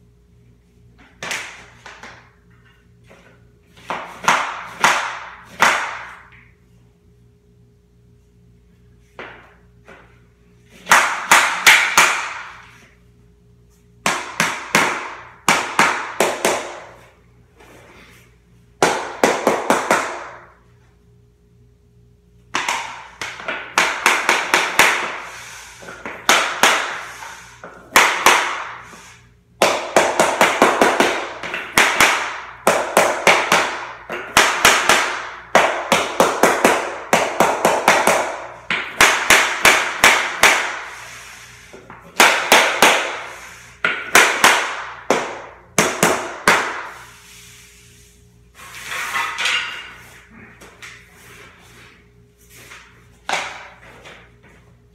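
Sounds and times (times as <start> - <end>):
mallet tapping vinyl floor planks: 1.0 - 6.6, 9.0 - 13.0, 14.0 - 17.2, 18.8 - 20.6, 22.4 - 47.1, 48.7 - 54.8.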